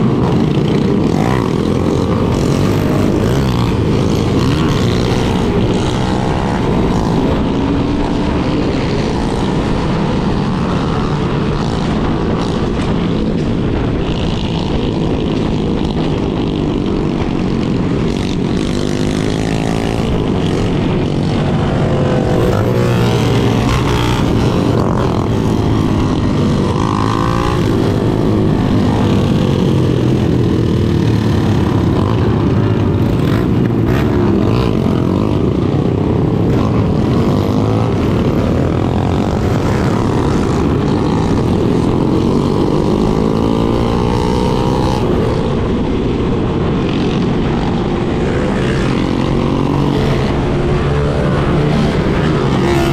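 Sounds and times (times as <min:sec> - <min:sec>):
motorcycle engines revving: 0:00.0 - 0:52.9.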